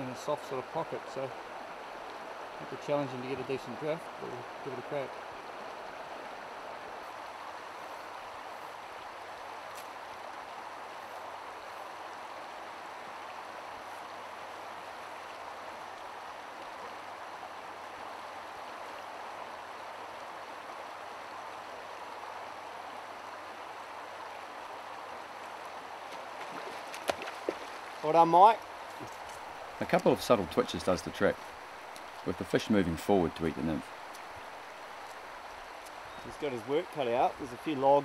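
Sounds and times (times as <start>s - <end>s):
river water rushing over stones: 0.0s - 38.0s.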